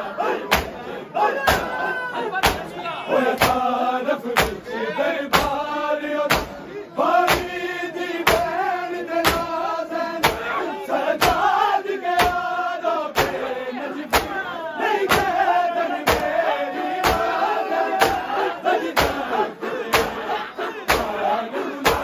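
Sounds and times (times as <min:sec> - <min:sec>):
men chanting: 0:00.0 - 0:22.0
people slapping chests in unison: 0:00.2 - 0:22.0.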